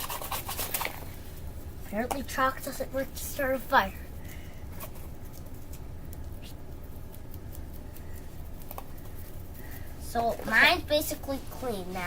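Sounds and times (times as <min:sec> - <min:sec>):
brush scratching and tool taps: 0:00.0 - 0:12.0
steady low hum: 0:00.0 - 0:12.0.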